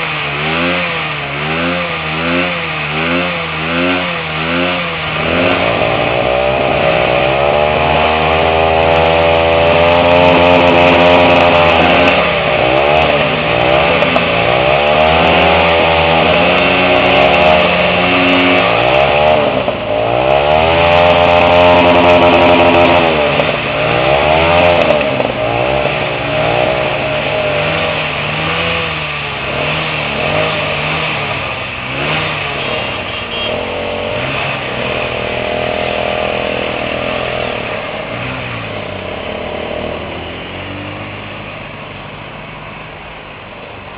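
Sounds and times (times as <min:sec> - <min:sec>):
small motorcycle engines revving: 0:00.0 - 0:43.9.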